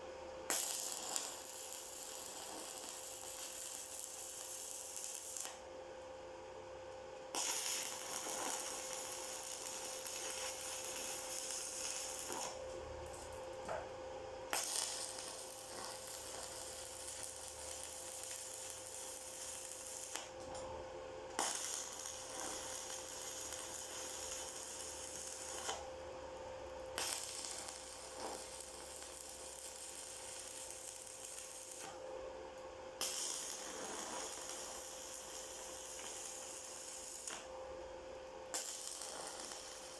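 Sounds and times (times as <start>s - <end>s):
steady hum: 0.0s - 39.9s
welding arc crackling: 0.5s - 5.7s, 7.3s - 13.8s, 14.5s - 20.7s, 21.3s - 25.9s, 26.8s - 32.0s, 33.0s - 37.5s, 38.5s - 39.9s.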